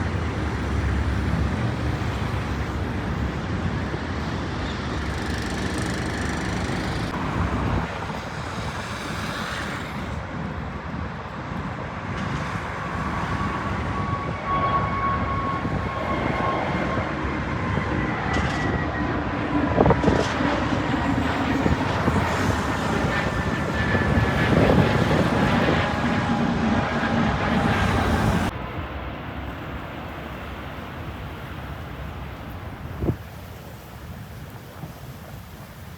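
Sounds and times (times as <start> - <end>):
jet engines rumbling with whine: 0.0 - 35.9.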